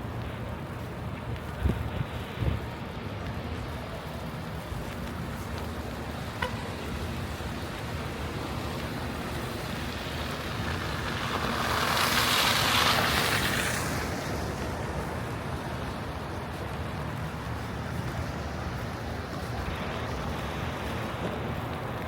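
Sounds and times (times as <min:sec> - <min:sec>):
traffic hiss: 0:00.0 - 0:22.0.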